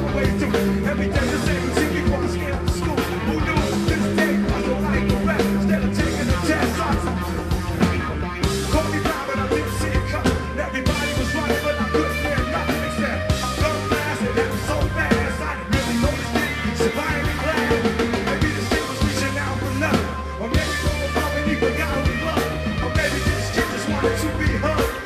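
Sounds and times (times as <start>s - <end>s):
bass guitar: 0.0s - 25.0s
drum kit: 0.0s - 25.0s
electric guitar: 0.0s - 25.0s.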